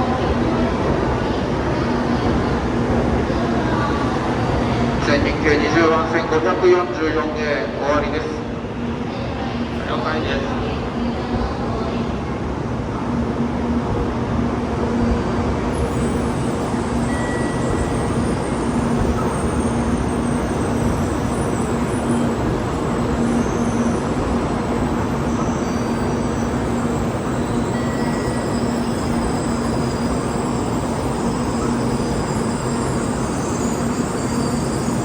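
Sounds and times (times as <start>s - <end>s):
train rumble: 0.0s - 35.0s.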